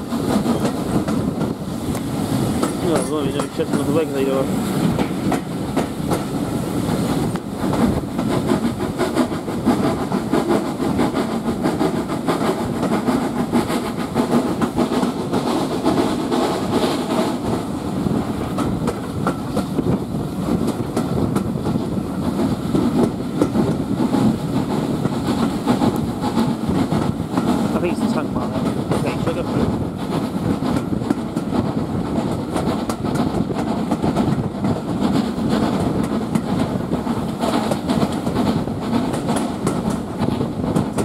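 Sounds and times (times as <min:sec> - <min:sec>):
steam train running: 0:00.0 - 0:41.0.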